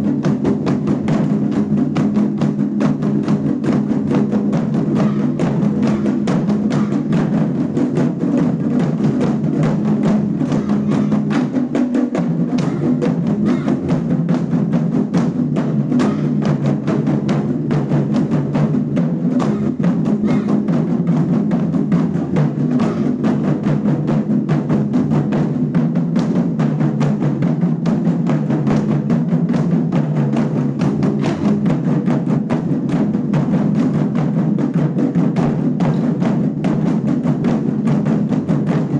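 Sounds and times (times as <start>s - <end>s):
drum ensemble fast drumming: 0.0s - 38.9s.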